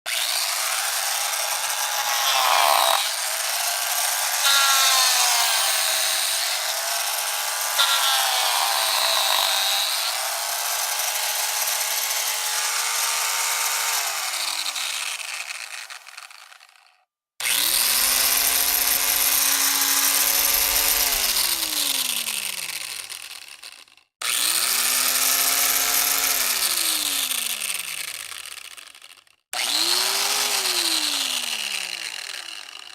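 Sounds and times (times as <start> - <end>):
rotary saw motor whining: 0.1 - 32.9.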